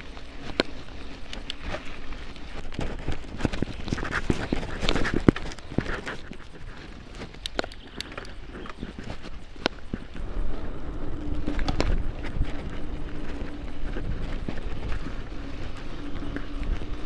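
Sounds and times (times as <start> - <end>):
bicycle rattling and knocking: 0.0 - 17.0
faint steady hum: 0.0 - 17.0
low rumble of wind: 0.0 - 17.0.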